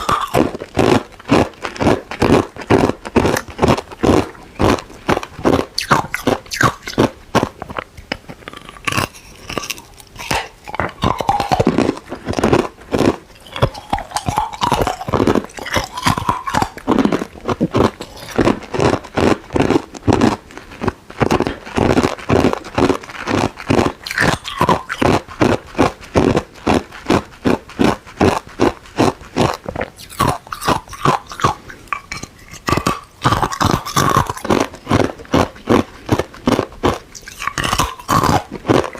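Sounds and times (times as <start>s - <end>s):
ice cubes crunched by teeth: 0.0s - 38.9s.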